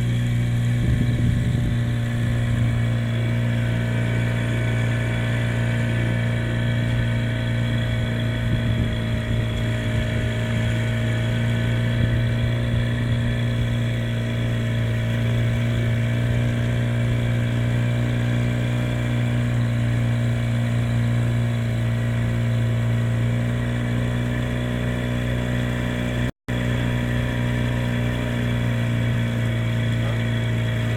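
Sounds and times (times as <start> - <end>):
steady engine drone: 0.0 - 30.9.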